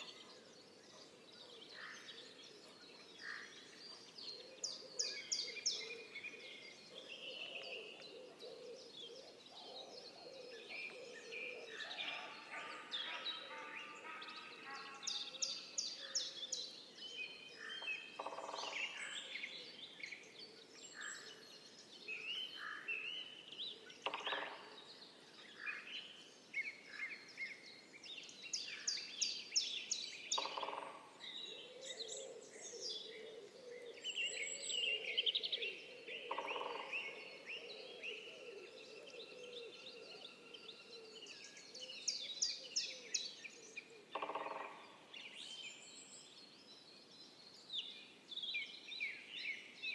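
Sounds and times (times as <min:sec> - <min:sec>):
birds singing and chirping: 0:00.0 - 0:49.9.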